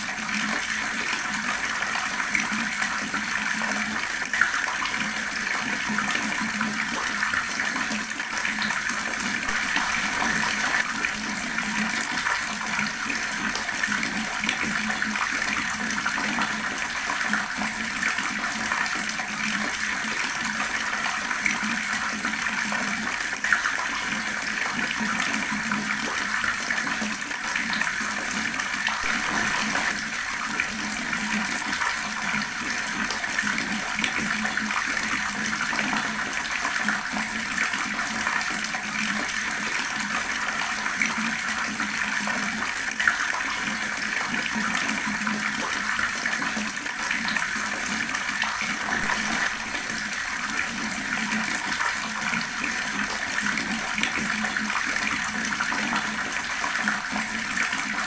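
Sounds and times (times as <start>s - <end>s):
water tap running: 0.0s - 58.0s.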